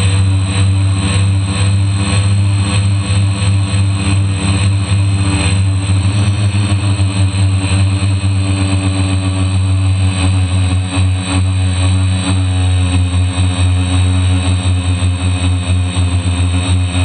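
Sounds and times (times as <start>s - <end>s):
drone motors humming: 0.0s - 17.0s.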